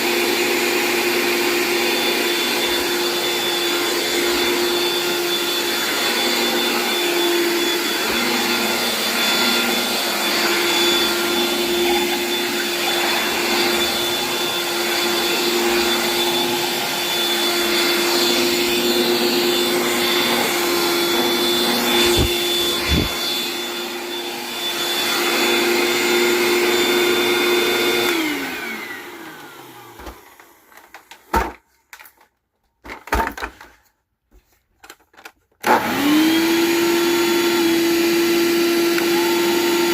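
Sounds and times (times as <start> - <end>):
upright vacuum cleaner whining: 0.0 - 31.6, 35.2 - 39.9
vacuum motor winding down: 0.1 - 30.5, 35.6 - 39.9.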